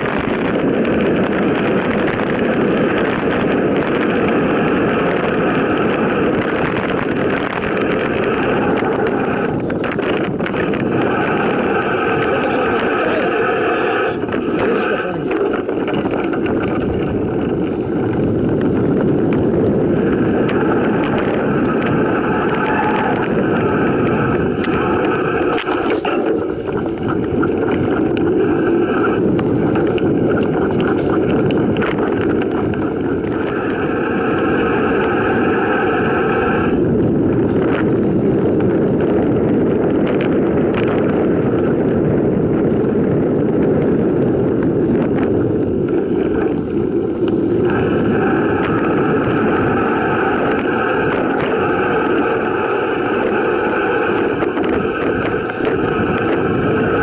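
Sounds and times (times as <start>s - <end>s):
bike rattling over bumps: 0.0s - 57.0s
high whirring: 0.0s - 57.0s
tyre rumble: 0.0s - 57.0s
wind rush on microphone: 0.0s - 57.0s.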